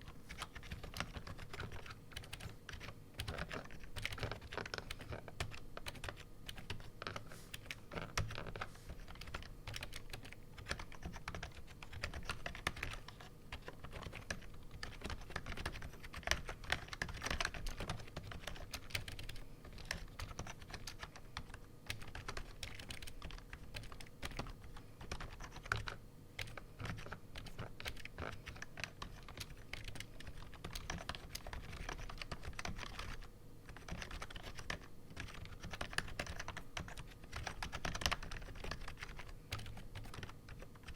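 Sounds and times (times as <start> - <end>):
typing on a keyboard: 0.0 - 40.9.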